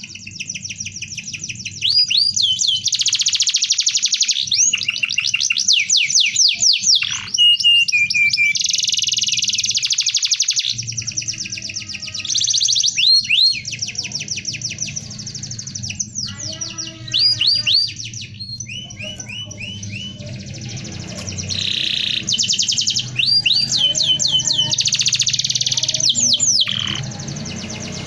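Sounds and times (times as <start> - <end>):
canary singing trills: 0.0 - 28.0.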